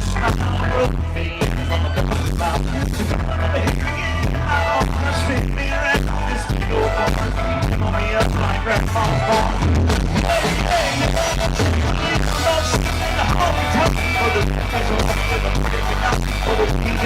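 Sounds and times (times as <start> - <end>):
country rock band music: 0.0 - 17.0
heavy bass beat: 0.0 - 17.0.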